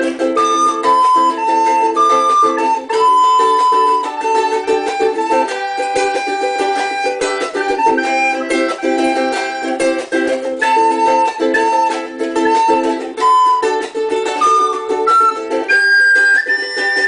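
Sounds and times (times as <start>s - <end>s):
held melody line: 0.0s - 17.0s
ukulele strummed chords: 0.0s - 17.0s.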